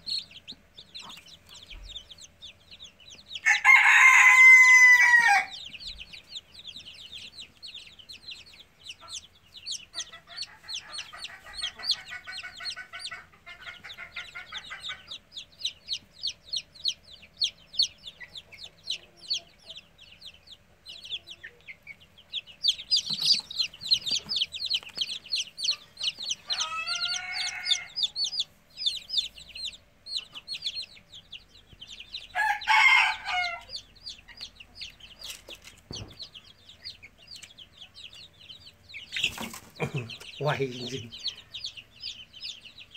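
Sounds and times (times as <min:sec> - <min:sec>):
lower louder chick calls: 0:00.0 - 0:35.3, 0:35.9 - 0:42.9
chicks peeping: 0:00.0 - 0:42.9.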